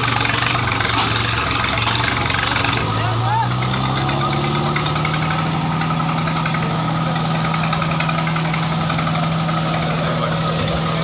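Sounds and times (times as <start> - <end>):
diesel tractor engines droning: 0.0 - 11.0.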